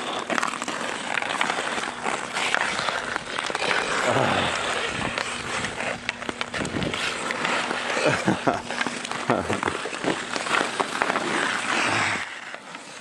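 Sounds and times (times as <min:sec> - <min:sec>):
hockey sticks clacking on ice: 0:00.0 - 0:13.0
skate blades scraping on ice: 0:00.0 - 0:13.0.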